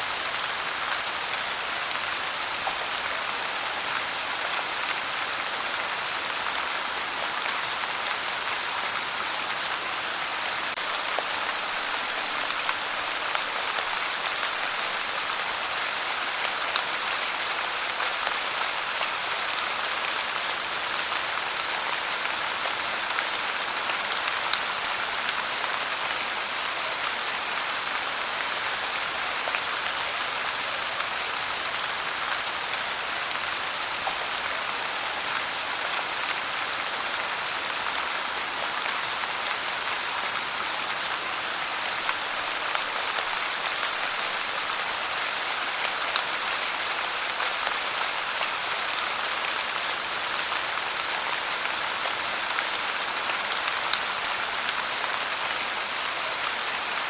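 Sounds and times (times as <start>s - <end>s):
pouring rain: 0.0s - 57.0s.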